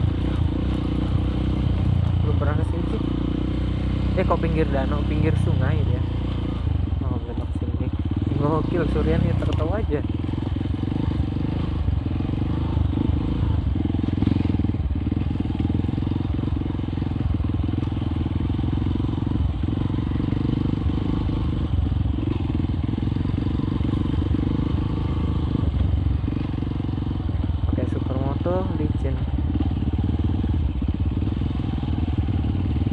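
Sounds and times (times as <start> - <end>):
motorcycle engine at low revs: 0.0 - 32.9.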